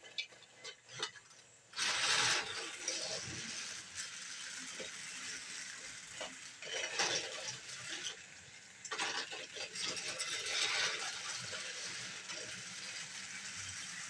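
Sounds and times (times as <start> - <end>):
toy gear motor whirring: 0.1 - 14.0.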